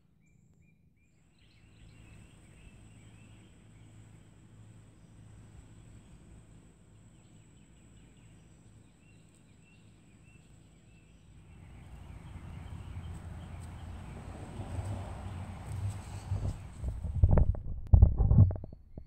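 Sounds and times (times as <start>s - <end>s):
bird chirping: 0.2s - 17.0s.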